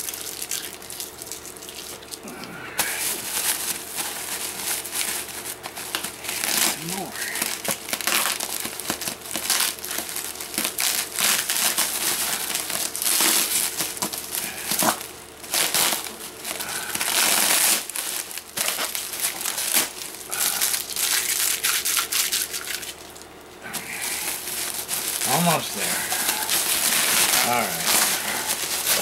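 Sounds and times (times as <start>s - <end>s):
bubble wrap crinkling: 0.0s - 29.0s.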